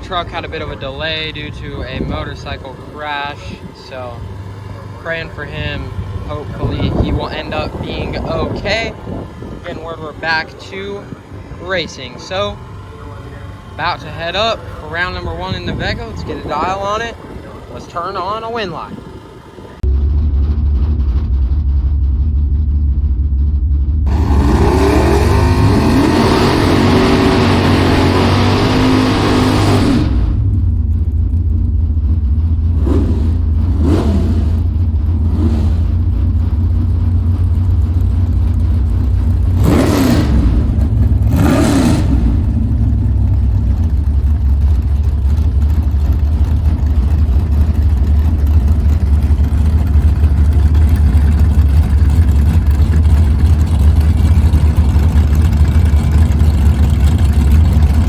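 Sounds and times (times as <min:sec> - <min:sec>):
engines revving: 0:00.0 - 0:21.3, 0:24.0 - 0:58.0
race car engines idling: 0:00.0 - 0:58.0.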